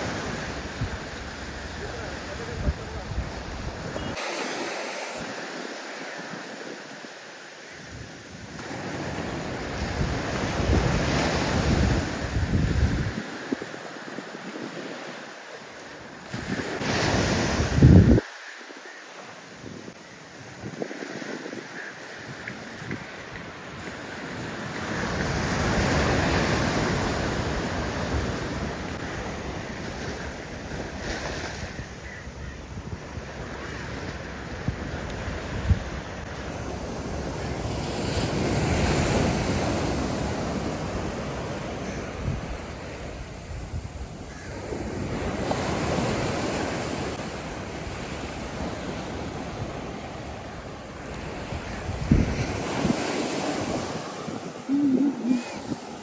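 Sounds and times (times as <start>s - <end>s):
wind buffeting microphone: 0.0s - 4.2s, 7.8s - 15.3s, 16.0s - 18.3s, 19.6s - 56.0s
sea waves surging up beach: 0.0s - 56.0s.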